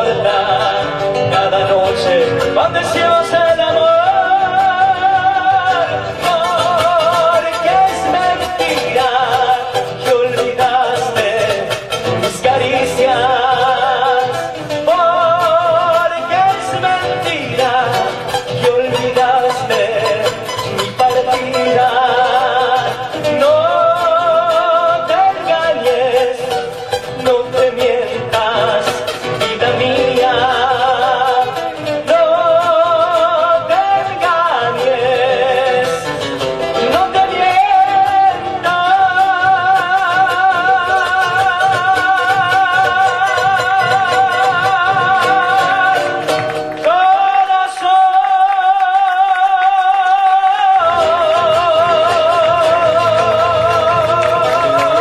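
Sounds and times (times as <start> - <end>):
folk music with vibrato melody: 0.0 - 55.0.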